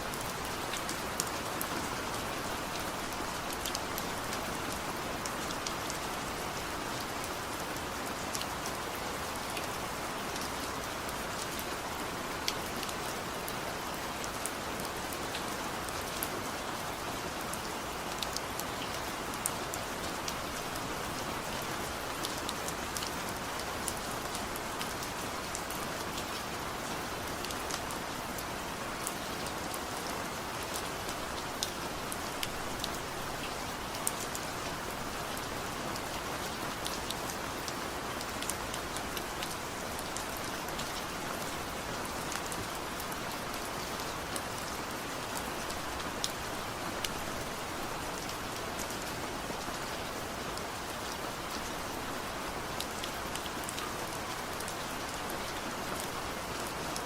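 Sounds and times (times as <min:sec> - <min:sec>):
steady rain hiss: 0:00.0 - 0:57.0
raindrops ticking on a surface: 0:00.1 - 0:57.0.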